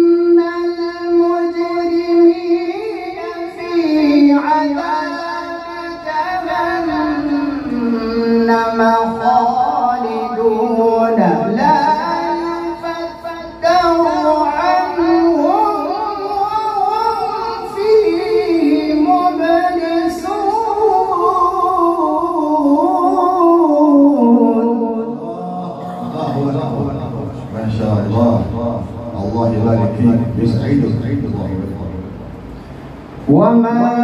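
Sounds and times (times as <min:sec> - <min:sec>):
man reciting melodically: 0:00.0 - 0:32.2, 0:33.2 - 0:34.0.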